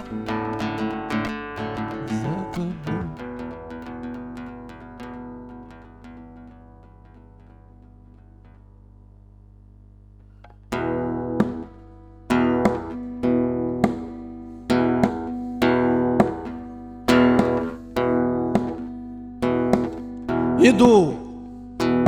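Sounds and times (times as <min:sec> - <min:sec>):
acoustic guitar strumming chords: 0:00.0 - 0:08.7, 0:10.7 - 0:22.0.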